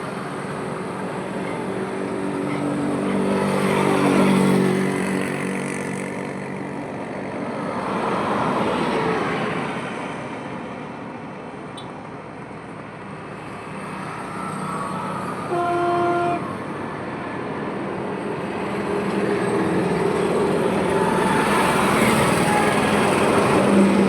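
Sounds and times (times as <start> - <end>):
highway road noise: 0.0 - 24.0.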